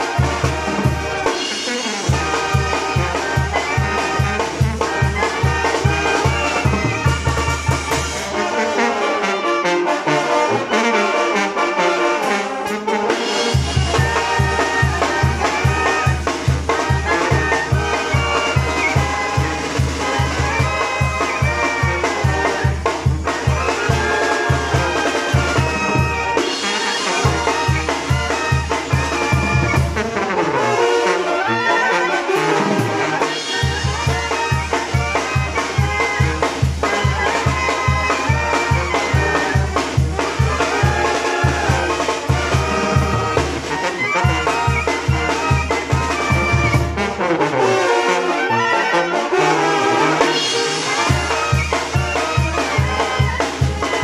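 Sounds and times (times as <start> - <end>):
brass band horns playing melody: 0.0 - 54.0
drums: 0.0 - 54.0.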